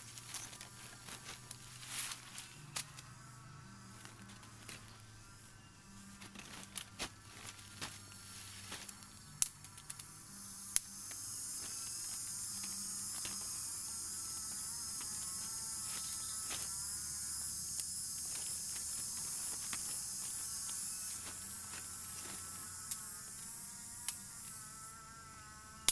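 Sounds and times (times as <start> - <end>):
sharp snaps and rustles: 0.0 - 3.2, 3.9 - 5.1, 6.0 - 25.0
insects buzzing chorus: 0.0 - 25.9.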